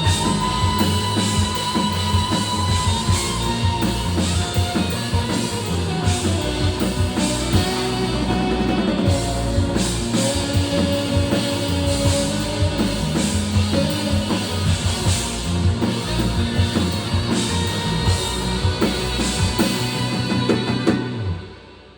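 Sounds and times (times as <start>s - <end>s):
drums keeping a steady beat: 0.0s - 21.4s
rock band playing: 0.0s - 21.9s.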